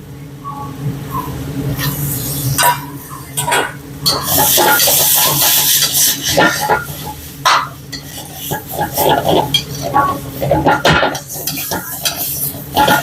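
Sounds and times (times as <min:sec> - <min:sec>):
food frying hiss: 0:01.6 - 0:13.0
metal utensil scraping a pan: 0:01.8 - 0:13.0.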